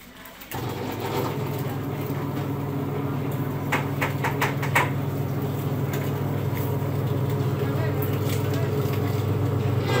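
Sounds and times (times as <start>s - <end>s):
juice machine humming: 0.4s - 10.0s.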